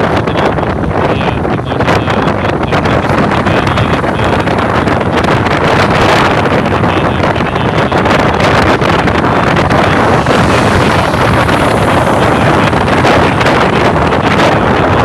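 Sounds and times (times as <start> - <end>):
road noise: 0.0 - 15.0
wind rushing over microphone: 0.0 - 15.0
vehicle engine: 1.1 - 15.0.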